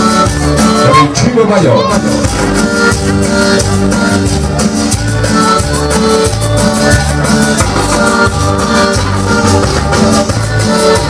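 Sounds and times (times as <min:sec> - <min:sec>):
loud cumbia music on sound system: 0:00.0 - 0:11.0.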